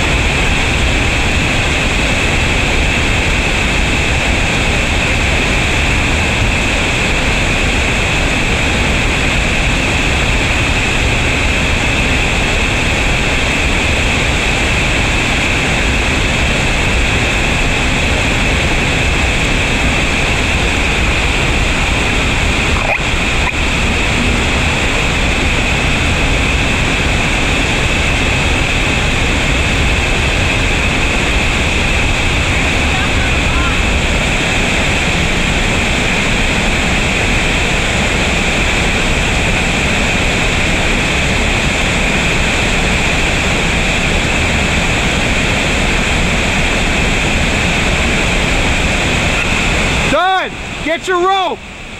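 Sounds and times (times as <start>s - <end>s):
waterfall rushing: 0.1s - 51.9s.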